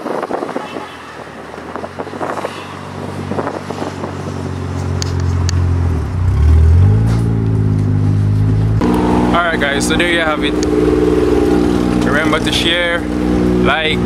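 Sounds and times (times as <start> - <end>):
car engine accelerating: 1.3 - 14.0.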